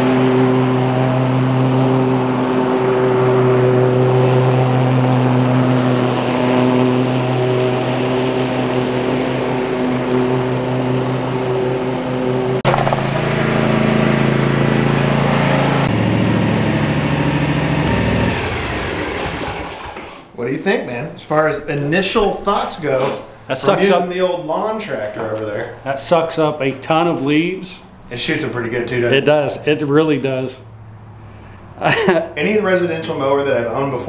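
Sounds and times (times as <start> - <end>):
riding mower engine running: 0.0 - 20.3, 26.1 - 34.0.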